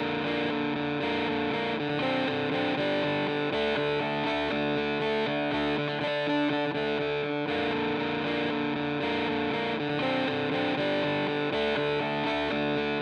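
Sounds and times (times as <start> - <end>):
distorted electric guitar music: 0.0 - 13.0.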